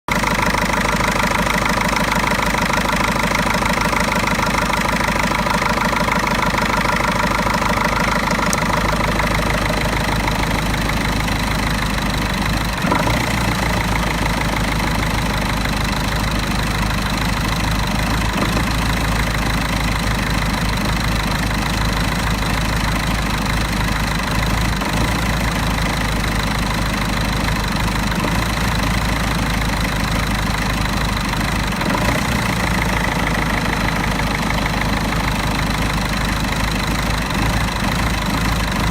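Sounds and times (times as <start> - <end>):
diesel engine idling roughly: 0.0 - 38.9.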